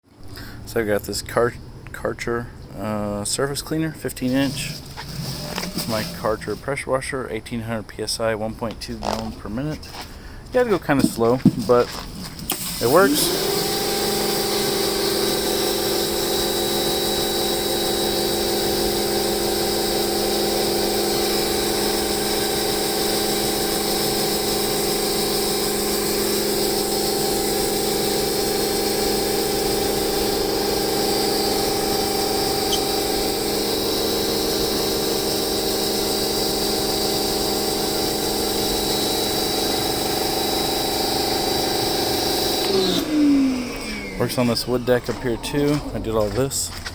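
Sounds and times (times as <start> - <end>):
pressure washer motor whine: 4.2 - 6.7, 11.0 - 46.9.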